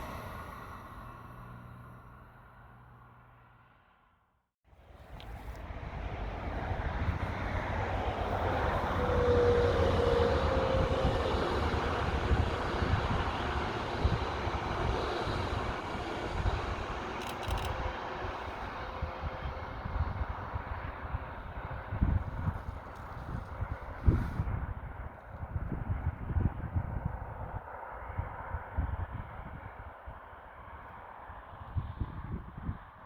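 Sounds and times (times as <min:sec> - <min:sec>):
train passing by: 0:00.0 - 0:03.8, 0:04.7 - 0:31.6
wind buffeting microphone: 0:05.0 - 0:33.0.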